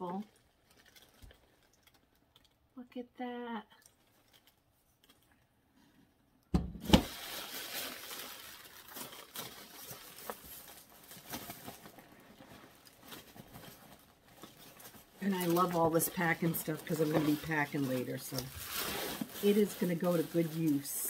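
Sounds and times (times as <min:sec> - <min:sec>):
packing material crinkling: 0:00.0 - 0:02.7, 0:03.7 - 0:05.4, 0:06.8 - 0:21.0.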